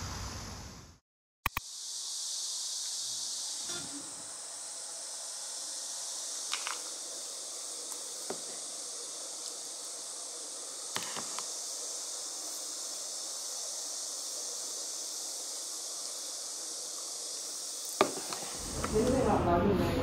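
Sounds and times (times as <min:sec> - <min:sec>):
high-pitched hiss: 0:00.0 - 0:20.0.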